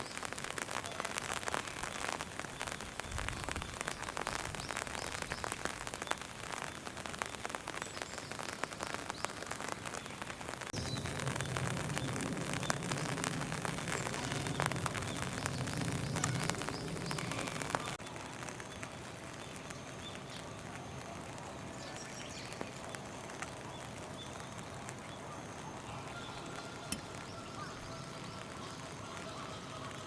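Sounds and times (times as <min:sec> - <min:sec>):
steady hiss: 0:00.0 - 0:29.9
dense crackling hiss: 0:00.0 - 0:30.0.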